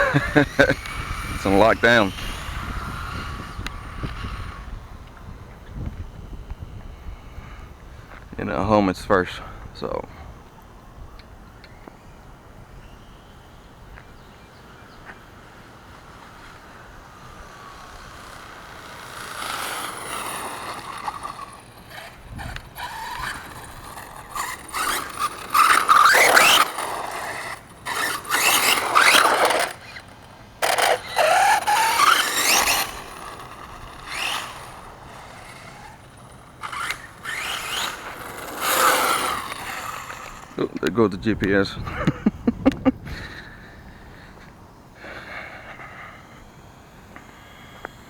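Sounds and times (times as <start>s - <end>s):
rc truck drivetrain whining: 0.0s - 48.0s.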